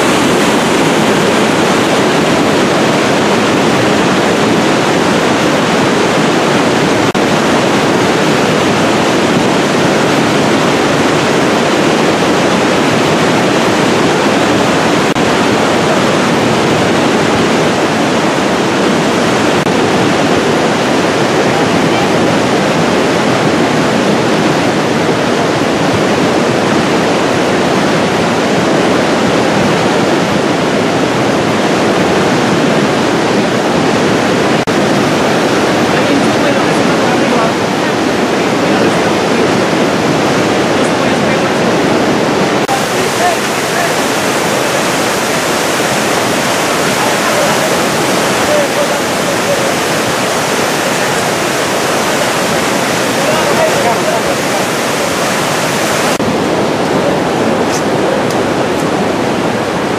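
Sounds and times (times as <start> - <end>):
fast-flowing river water: 0.0 - 59.9.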